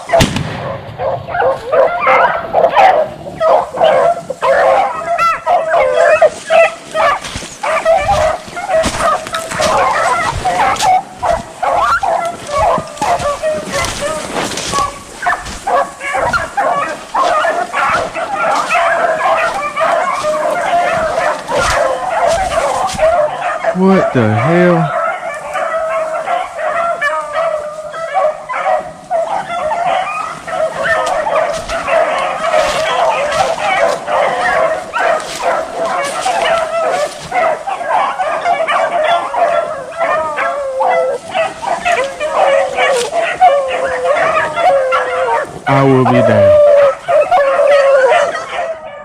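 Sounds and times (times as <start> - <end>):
pack of hounds baying: 0.0 - 49.0.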